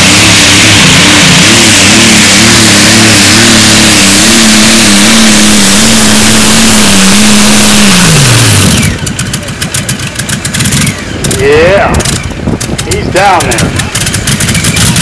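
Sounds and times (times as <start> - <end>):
tractor engine at full throttle: 0.0 - 15.0.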